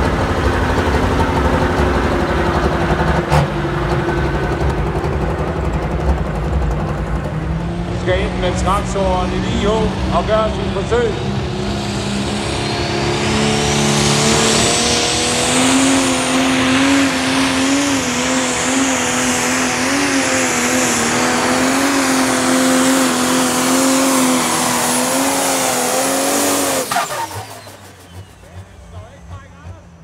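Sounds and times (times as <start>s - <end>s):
diesel engine revving under load: 0.0s - 30.0s
high turbo whine: 0.0s - 30.0s.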